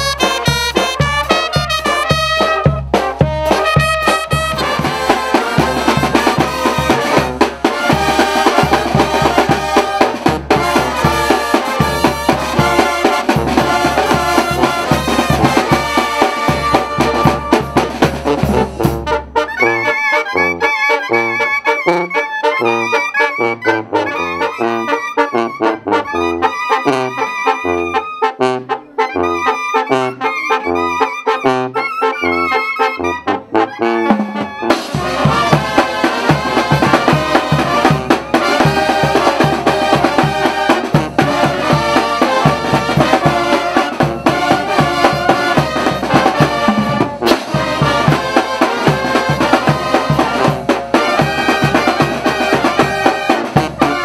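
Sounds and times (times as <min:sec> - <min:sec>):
brass band playing: 0:00.0 - 0:54.0
percussion: 0:00.0 - 0:54.0.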